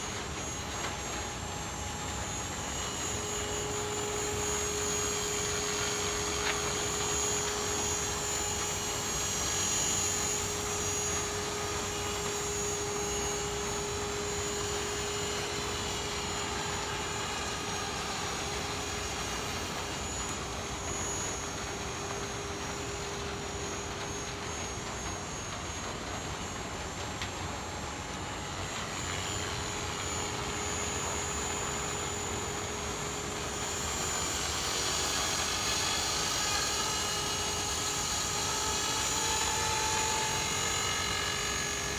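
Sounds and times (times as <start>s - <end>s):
spinning rotor: 0.0s - 27.8s, 28.5s - 41.9s
rc helicopter motor whine: 0.0s - 41.9s.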